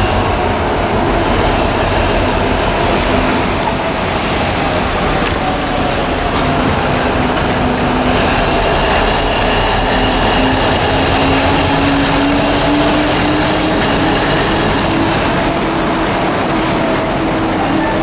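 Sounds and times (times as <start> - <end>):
diesel locomotive engine: 0.0 - 18.0.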